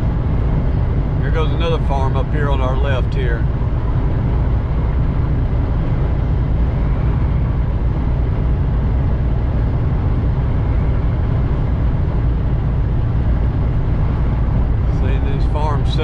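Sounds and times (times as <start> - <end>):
truck engine and tyre drone: 0.0 - 16.0.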